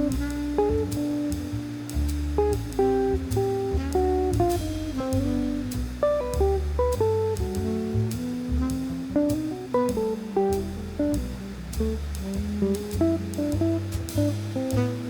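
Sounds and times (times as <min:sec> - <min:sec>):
bass line: 0:00.0 - 0:15.0
plucked guitar melody: 0:00.0 - 0:15.0
steady drum beat: 0:00.0 - 0:15.0.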